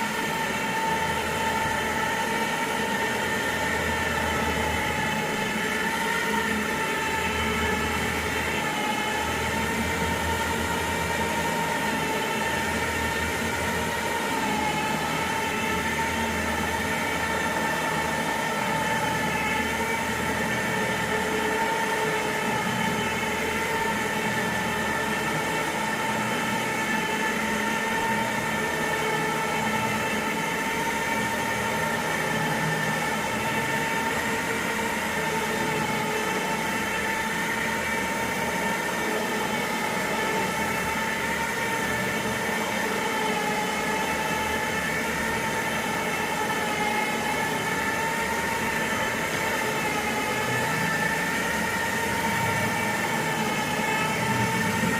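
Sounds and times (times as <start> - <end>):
carpet cleaning machine whine: 0.0 - 54.9.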